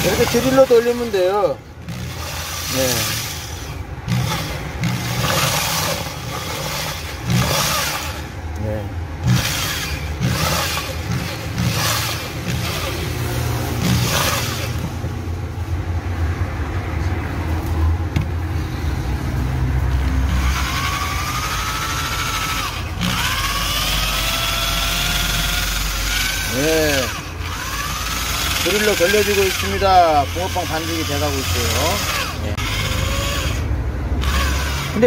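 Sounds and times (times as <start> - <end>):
electric drill mixing batter: 0.0 - 8.4, 9.2 - 15.1, 20.0 - 35.0.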